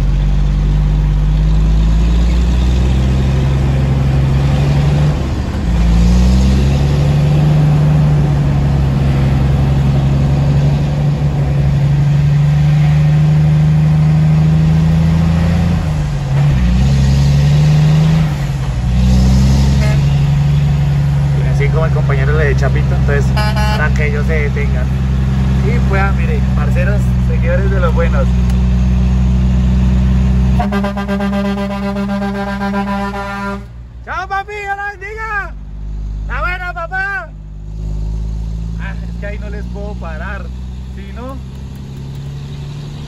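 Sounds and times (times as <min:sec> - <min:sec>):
truck diesel engine under load: 0:00.0 - 0:43.0.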